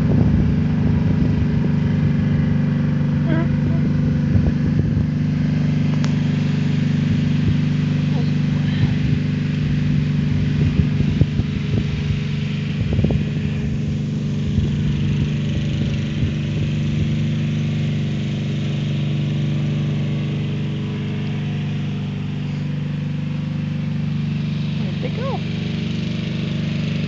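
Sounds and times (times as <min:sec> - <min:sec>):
riding mower engine running: 0:00.0 - 0:27.0.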